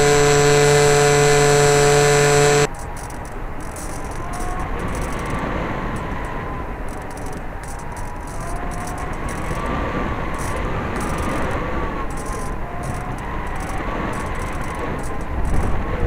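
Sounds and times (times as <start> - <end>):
model plane motor whining: 0.0 - 16.0
wind rushing on microphone: 2.6 - 16.0.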